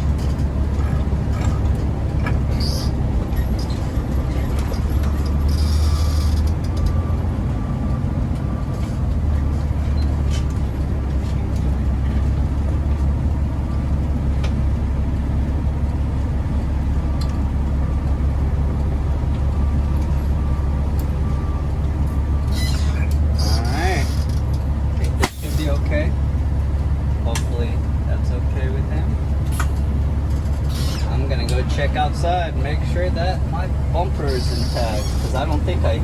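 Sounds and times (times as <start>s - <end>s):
truck diesel engine drone: 0.0s - 36.0s.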